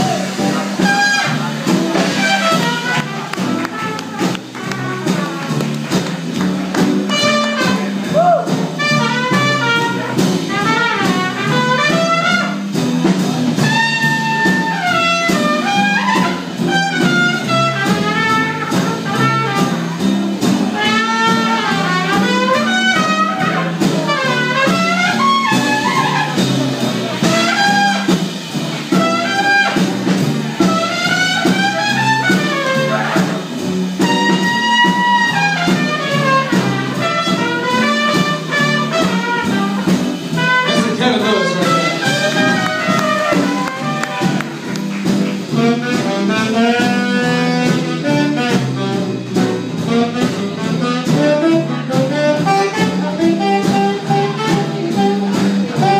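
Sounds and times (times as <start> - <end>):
archtop guitar: 0.0 - 55.9
trumpet lead melody: 0.0 - 55.9
upright bass: 0.0 - 55.9.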